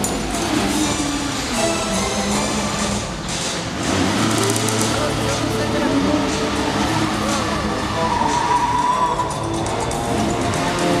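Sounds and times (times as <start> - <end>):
vehicle engines droning: 0.0 - 11.0.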